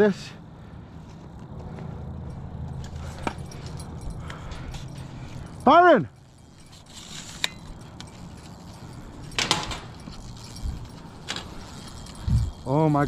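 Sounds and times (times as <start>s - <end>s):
fishing rod bells jingling: 2.1s - 13.0s.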